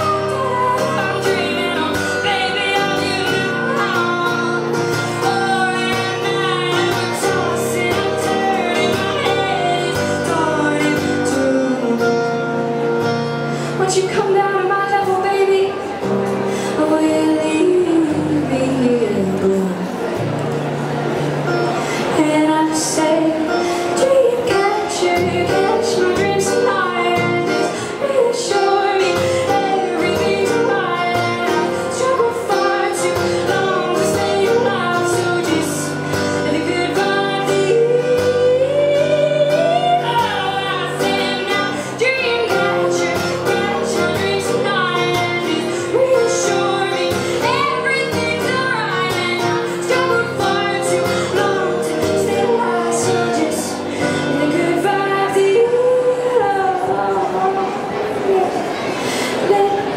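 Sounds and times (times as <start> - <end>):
woman singing: 0.0 - 20.0, 22.1 - 59.9
acoustic guitar: 0.0 - 59.9.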